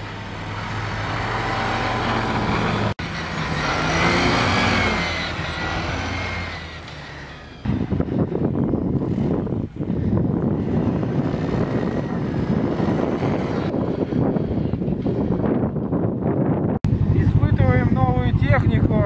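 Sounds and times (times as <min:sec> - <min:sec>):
snowmobile churning through snow: 0:00.0 - 0:15.4
snowmobile engine passing: 0:00.0 - 0:15.5.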